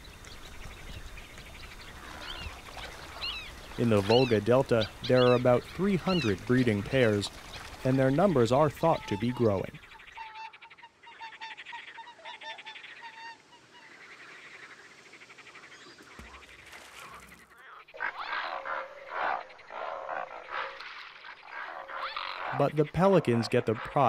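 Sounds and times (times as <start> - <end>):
waterbirds calling: 0.0 - 24.0.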